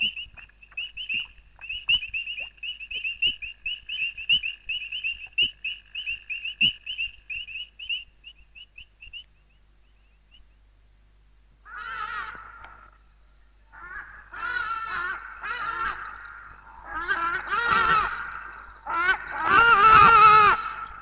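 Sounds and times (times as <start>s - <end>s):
frogs chirping: 0.0s - 10.8s, 11.6s - 21.0s.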